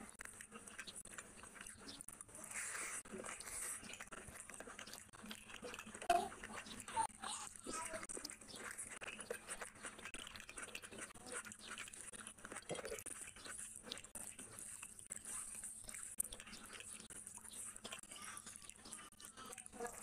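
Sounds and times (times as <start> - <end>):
close chewing with mouth clicks: 0.0 - 20.0
fingers squishing rice: 0.0 - 20.0.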